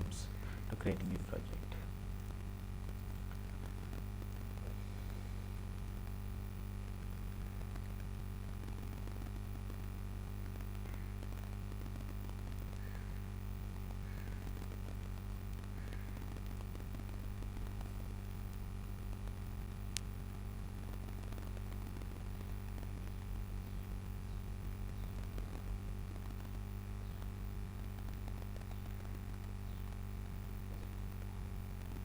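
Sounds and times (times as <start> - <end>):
low electrical hum and hiss: 0.0 - 32.0.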